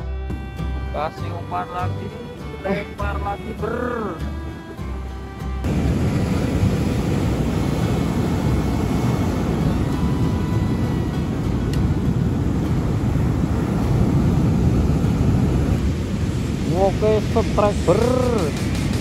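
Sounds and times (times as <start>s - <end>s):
wind buffeting microphone: 0.0s - 19.0s
heavy surf breaking: 0.3s - 19.0s.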